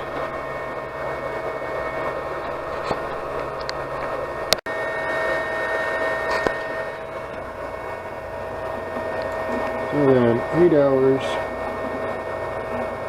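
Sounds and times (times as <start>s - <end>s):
printer cooling fans whirring: 0.0s - 13.0s.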